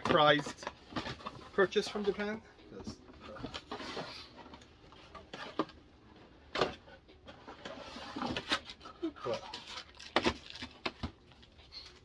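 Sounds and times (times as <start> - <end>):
cardboard rustling and scraping: 0.0 - 5.8, 6.6 - 11.0.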